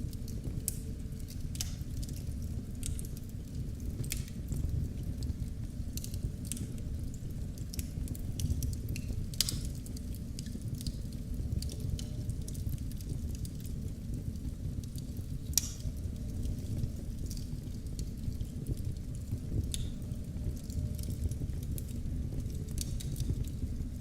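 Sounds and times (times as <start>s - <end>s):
fire popping: 0.0s - 24.0s
low rumble of burning: 0.0s - 24.0s
wood fire crackling: 0.0s - 24.0s.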